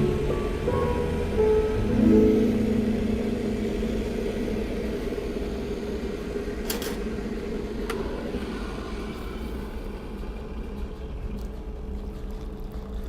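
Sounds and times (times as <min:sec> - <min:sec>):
kettle heating water: 0:00.0 - 0:13.0.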